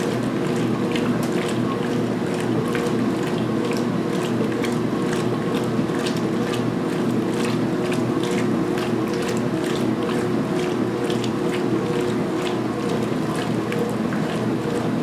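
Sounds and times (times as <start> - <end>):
washer agitator strokes: 0.0 - 15.0
washing machine motor hum: 0.0 - 15.0.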